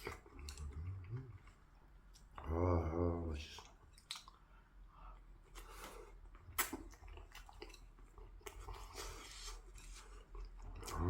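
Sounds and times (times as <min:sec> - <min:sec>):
person chewing food: 0:00.0 - 0:02.6, 0:03.5 - 0:11.0.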